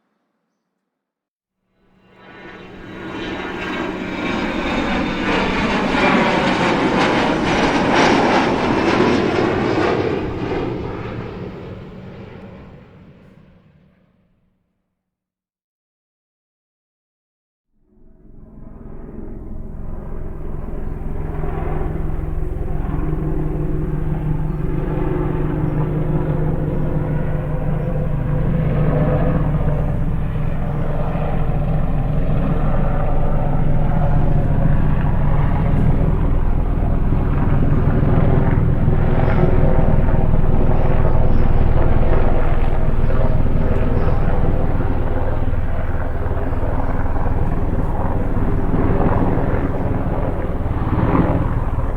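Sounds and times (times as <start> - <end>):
aircraft engine running: 1.9 - 13.7, 18.0 - 51.9.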